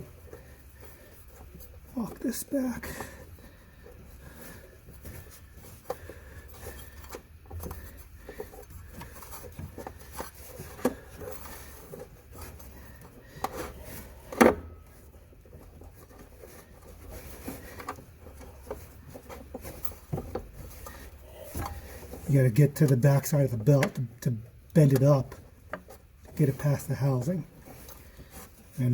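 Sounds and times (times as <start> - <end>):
rubber belt rubbing: 0.0 - 23.4.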